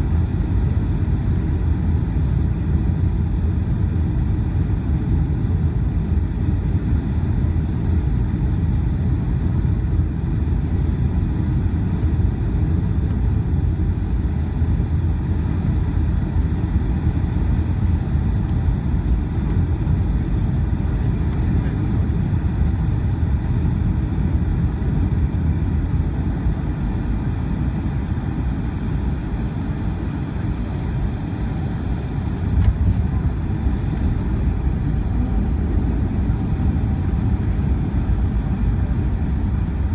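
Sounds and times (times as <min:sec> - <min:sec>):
loud low rumble of engines and airflow: 0:00.0 - 0:39.9.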